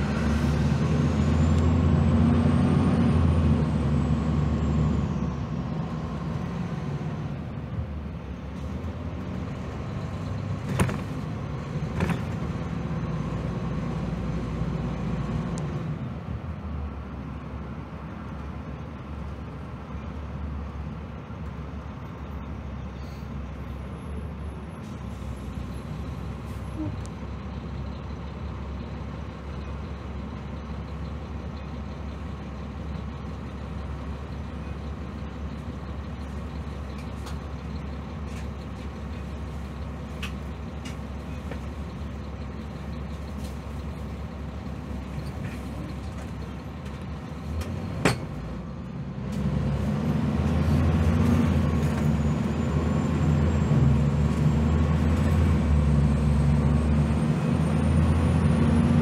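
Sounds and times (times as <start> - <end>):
bus diesel engine: 0.0 - 59.0
road noise: 0.0 - 59.0.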